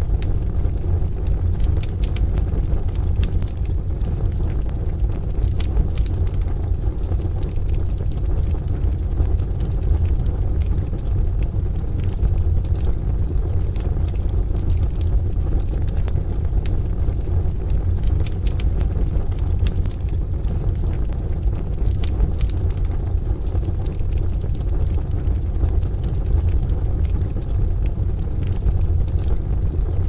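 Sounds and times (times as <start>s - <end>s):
rain: 0.0s - 30.0s
wood fire crackling: 0.0s - 30.0s.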